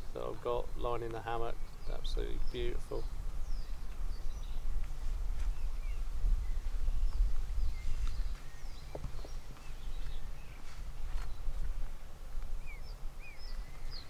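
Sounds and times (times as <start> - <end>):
low uneven rumble: 0.0 - 14.0
small birds chirping: 0.0 - 14.0.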